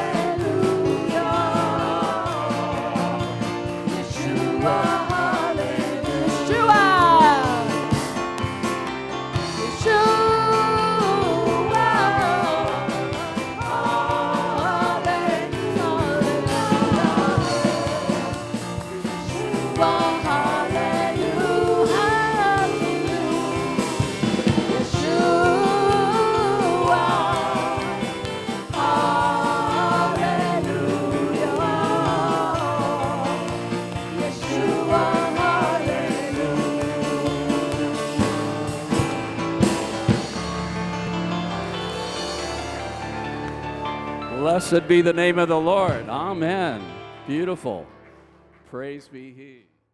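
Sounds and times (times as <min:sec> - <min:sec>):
worship band with singing: 0:00.0 - 0:47.9.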